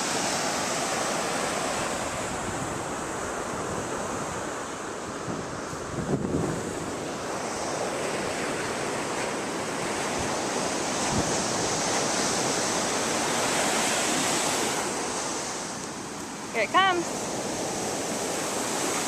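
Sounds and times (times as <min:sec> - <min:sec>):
ocean surf washing up beach: 0:00.0 - 0:19.0.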